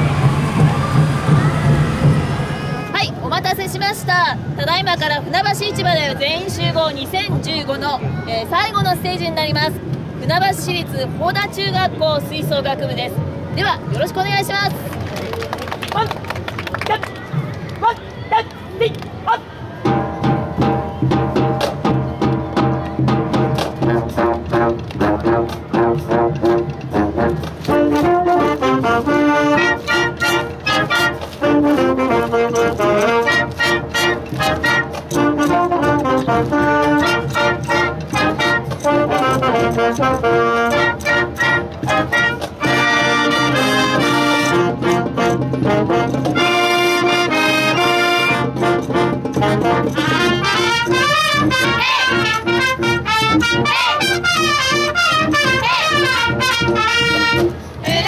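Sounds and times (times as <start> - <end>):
marching band playing: 0.0 - 15.0, 19.8 - 58.0.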